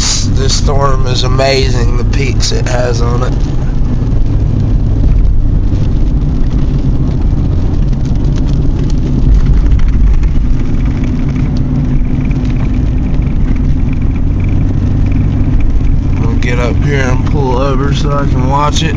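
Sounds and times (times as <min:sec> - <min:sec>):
car cabin road rumble: 0:00.0 - 0:18.9.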